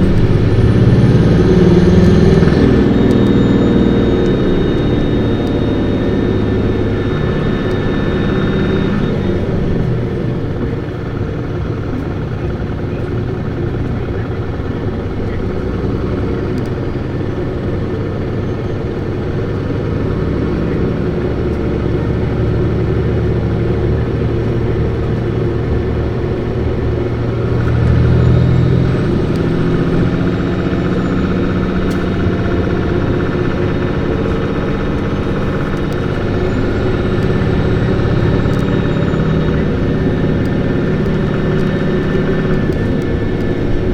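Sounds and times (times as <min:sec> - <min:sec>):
bus diesel engine revving: 0:00.0 - 0:43.9
road noise: 0:00.0 - 0:43.9.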